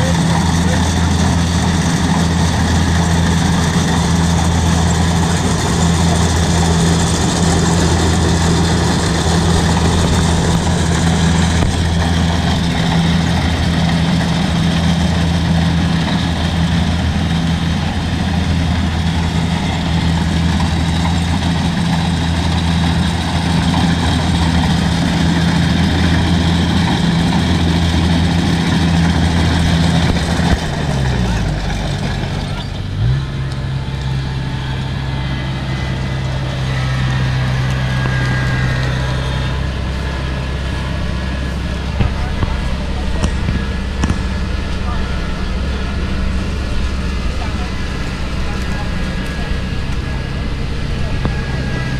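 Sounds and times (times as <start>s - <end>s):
combine harvester engine running: 0.0s - 51.9s
mechanical whirr of threshing works: 0.0s - 51.9s.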